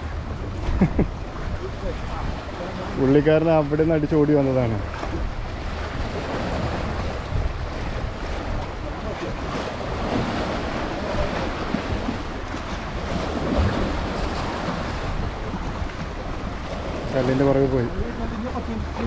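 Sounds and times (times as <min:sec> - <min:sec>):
sea waves washing ashore: 0:00.0 - 0:19.0
wind buffeting microphone: 0:00.0 - 0:19.0.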